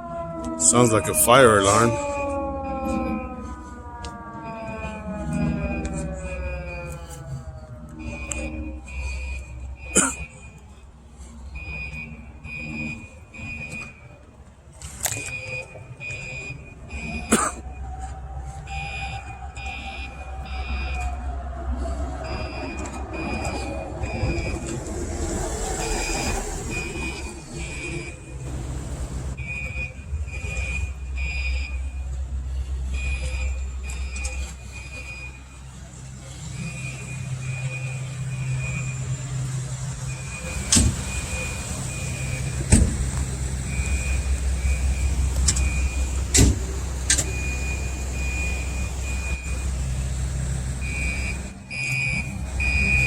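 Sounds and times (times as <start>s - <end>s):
fire alarm beeping: 0.6s - 10.8s, 11.6s - 14.3s, 15.2s - 21.4s, 22.1s - 24.8s, 25.7s - 28.5s, 29.4s - 32.2s, 32.9s - 35.7s, 36.5s - 42.7s, 43.6s - 46.3s, 47.2s - 50.1s, 50.8s - 53.0s
vehicle engine idling: 2.0s - 53.0s.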